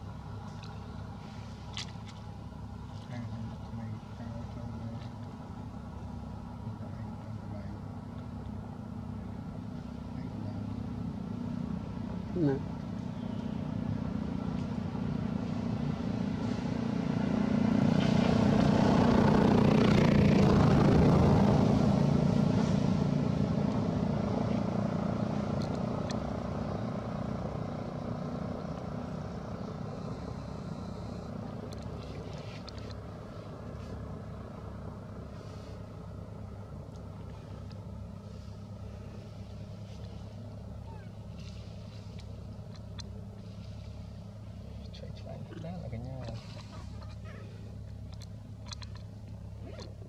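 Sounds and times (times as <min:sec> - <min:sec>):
motor vehicle engine passing by: 0:00.0 - 0:50.0.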